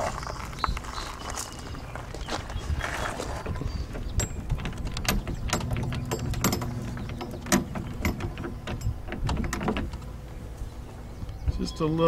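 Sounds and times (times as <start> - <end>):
low steady rumble: 1.6 - 11.8.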